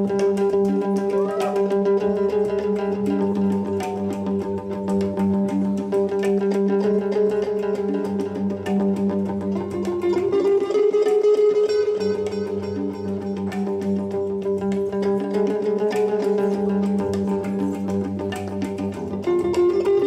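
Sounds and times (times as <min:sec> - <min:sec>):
electric guitar: 0:00.0 - 0:20.0
hang drum notes: 0:00.0 - 0:20.0.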